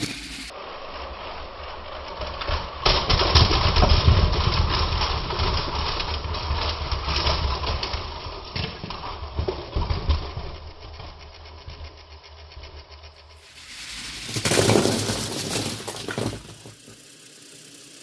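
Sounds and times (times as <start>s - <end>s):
toy train rattling on plastic track: 0.0s - 18.0s.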